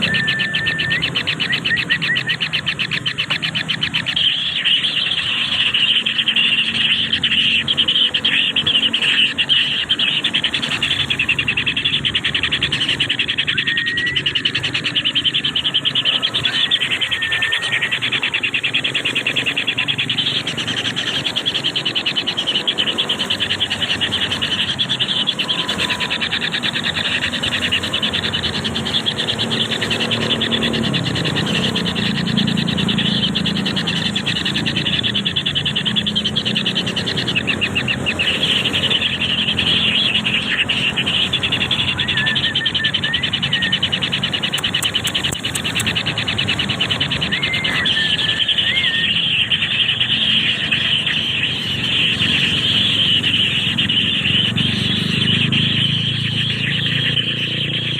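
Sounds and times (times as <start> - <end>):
faint whistled bird notes: 0.0 - 57.9
insects trilling: 0.0 - 57.9.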